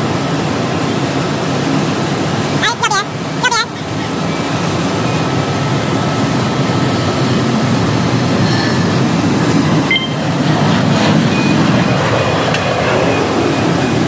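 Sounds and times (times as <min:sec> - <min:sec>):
distant airliner taking off: 0:00.0 - 0:14.0
jet engines rumbling: 0:00.0 - 0:14.0.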